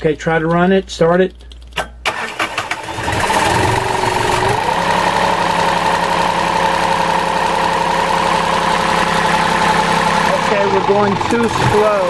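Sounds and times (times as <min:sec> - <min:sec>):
diesel generator running: 0:02.1 - 0:12.0.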